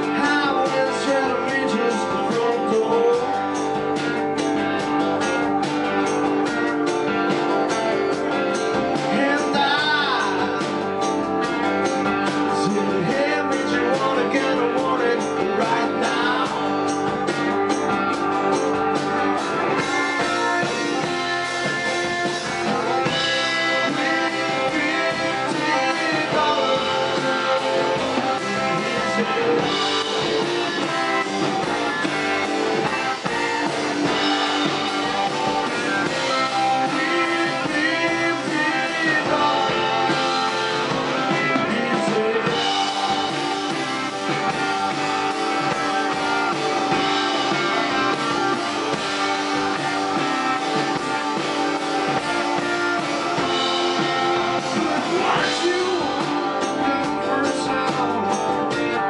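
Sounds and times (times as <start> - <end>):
person singing: 0.0 - 4.1, 7.8 - 17.6, 19.4 - 59.0
live rock band playing: 0.0 - 59.0.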